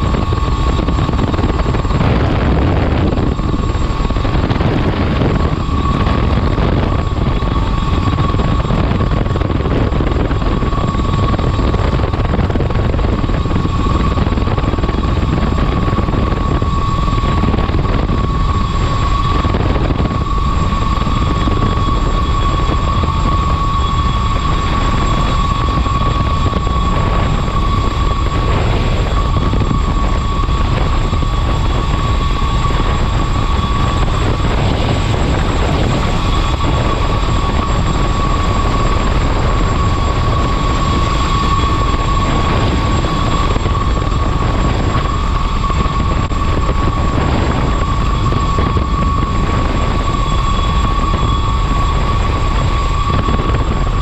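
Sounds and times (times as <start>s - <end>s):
helicopter rotor and engine noise: 0.0s - 54.0s
high turbine whine: 0.0s - 54.0s.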